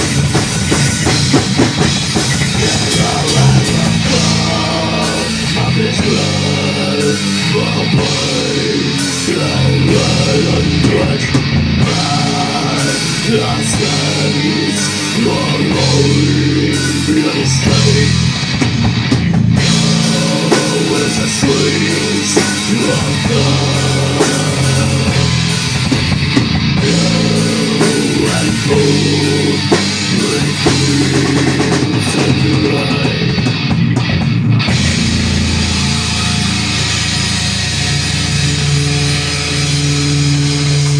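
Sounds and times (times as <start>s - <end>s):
bass guitar: 0.0s - 40.9s
distorted electric guitars: 0.0s - 40.9s
pounding drum kit: 0.0s - 40.9s.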